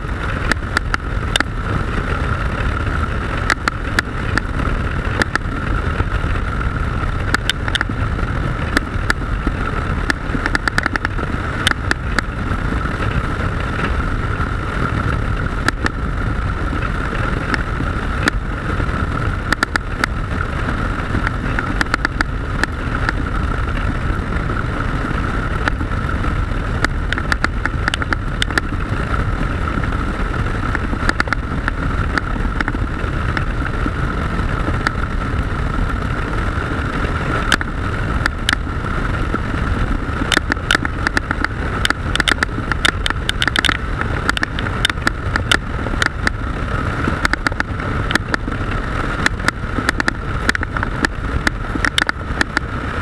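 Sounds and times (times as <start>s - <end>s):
motorcycle engine running: 0.0s - 53.0s
sharp crackling clicks: 0.0s - 53.0s
wind rush on microphone: 0.0s - 53.0s.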